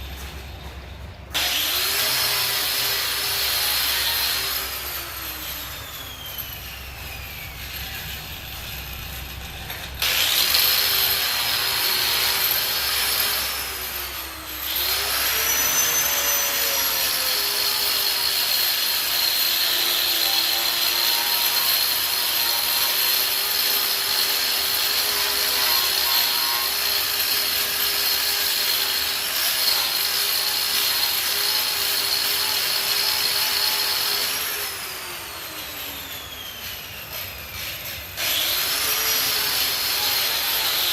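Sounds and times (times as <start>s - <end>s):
angle grinder whining on steel: 0.0s - 40.9s.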